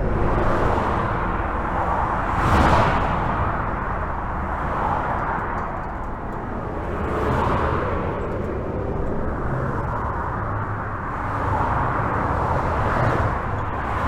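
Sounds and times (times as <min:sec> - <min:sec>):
highway traffic rushing: 0:00.0 - 0:14.0.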